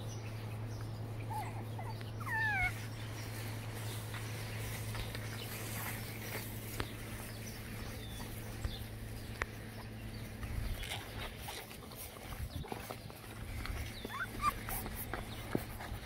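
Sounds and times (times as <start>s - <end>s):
steady low hum: 0.0s - 16.0s
puppies squeaking: 0.7s - 6.4s, 7.2s - 11.6s, 12.4s - 16.0s.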